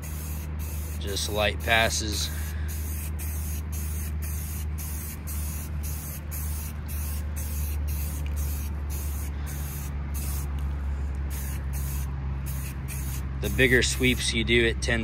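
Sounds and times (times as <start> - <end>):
spray paint can hissing: 0.0 - 10.6, 11.3 - 14.2
steady low hum: 0.0 - 15.0.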